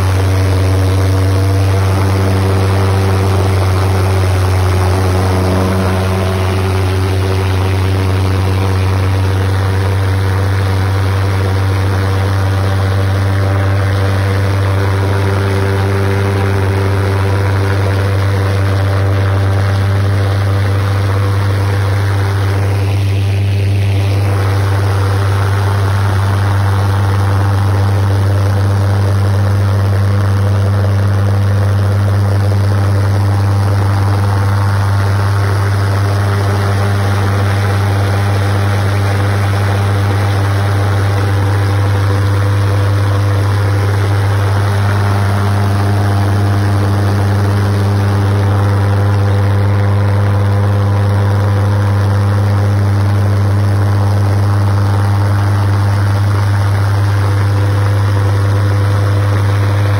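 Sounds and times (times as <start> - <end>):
pulsejet engine droning: 0.0 - 59.9.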